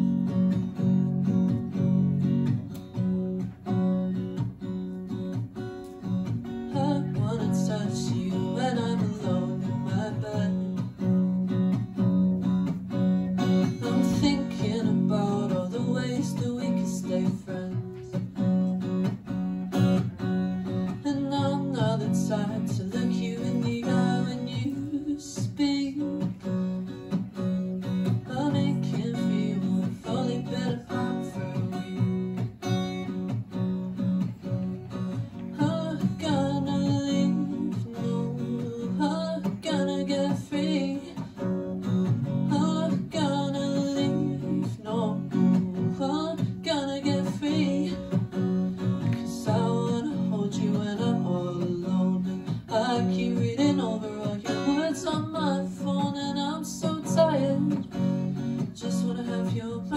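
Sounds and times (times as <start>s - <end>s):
acoustic guitar strumming: 0.0s - 59.9s
woman singing: 6.3s - 11.9s, 13.2s - 18.9s, 20.0s - 32.6s, 35.1s - 59.9s.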